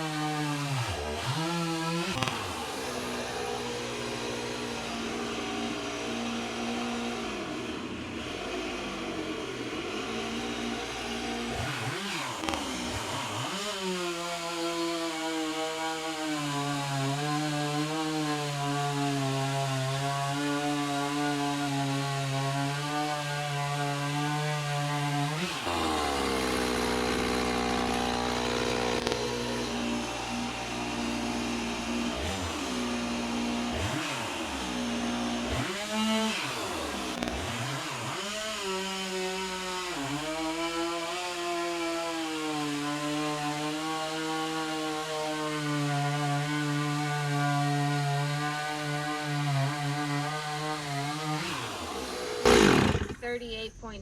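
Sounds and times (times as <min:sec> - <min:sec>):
chainsaw running at high speed: 0:00.0 - 0:53.5.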